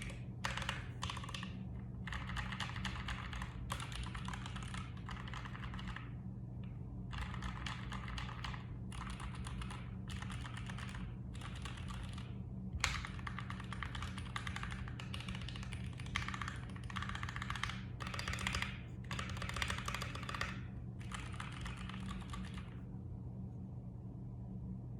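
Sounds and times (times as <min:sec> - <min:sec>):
mechanical keyboard typing: 0:00.0 - 0:06.1, 0:07.1 - 0:22.8.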